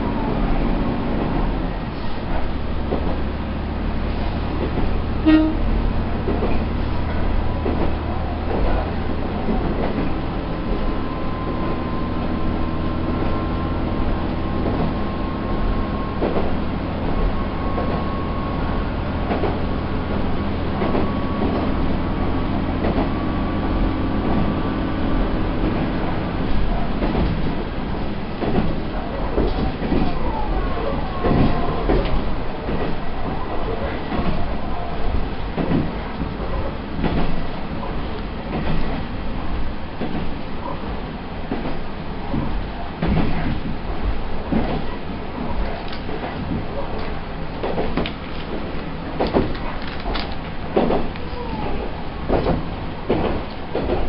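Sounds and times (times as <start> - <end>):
diesel railcar engine drone: 0.0 - 54.0.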